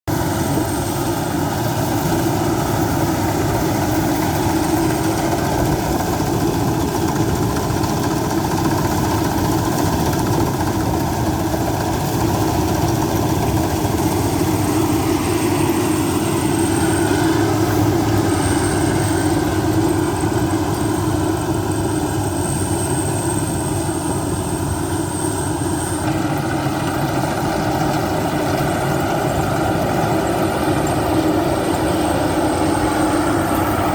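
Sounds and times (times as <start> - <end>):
combine harvester running: 0.1 - 33.9
faint high whine: 0.1 - 33.9.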